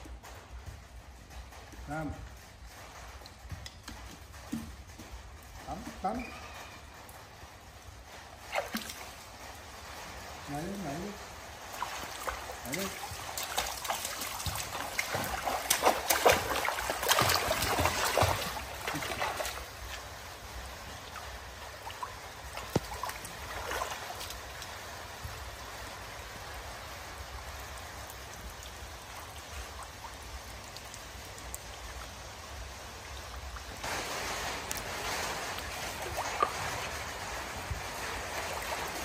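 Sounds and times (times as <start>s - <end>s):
pool water splashing and trickling: 0.0s - 39.0s.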